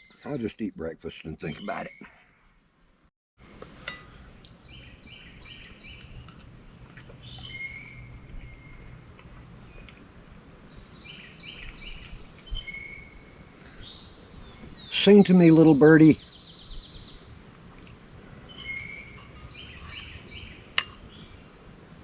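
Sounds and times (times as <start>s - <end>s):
songbird singing: 0.0s - 2.6s, 3.4s - 22.0s
outdoor background noise: 0.0s - 22.0s.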